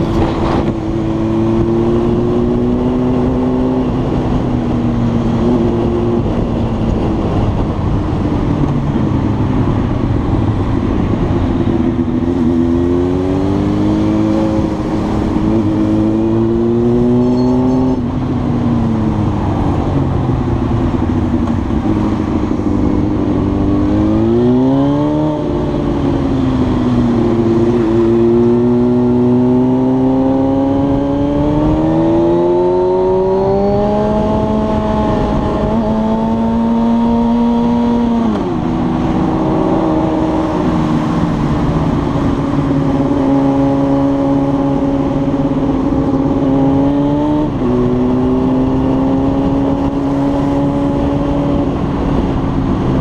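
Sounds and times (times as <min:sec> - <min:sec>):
motorcycle engine revving: 0:00.0 - 0:53.0
wind rush: 0:00.0 - 0:53.0.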